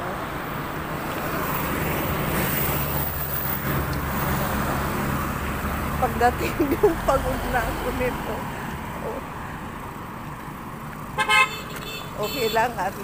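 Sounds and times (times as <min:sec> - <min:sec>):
road traffic: 0:00.0 - 0:13.0
vehicle engine hum passing: 0:00.0 - 0:13.0.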